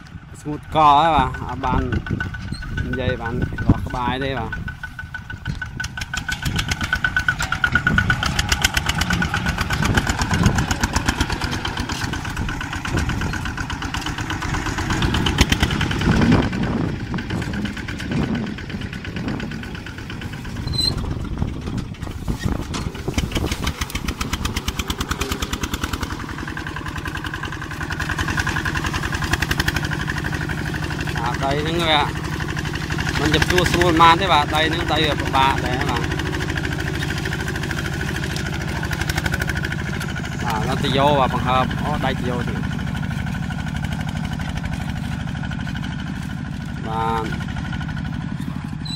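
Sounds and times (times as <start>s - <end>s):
tractor engine chugging: 0.0s - 48.9s.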